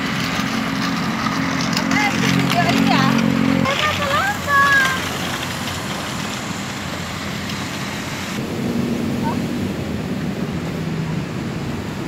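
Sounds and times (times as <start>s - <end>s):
engine hum: 0.0s - 12.0s
passing motorbikes and cars: 0.0s - 12.0s.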